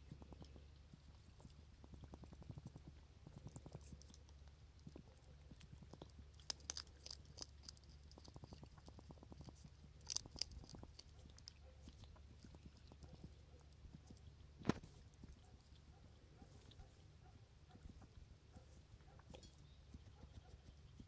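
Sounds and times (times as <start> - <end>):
hedgehog crunching kibble: 0.0 - 21.0.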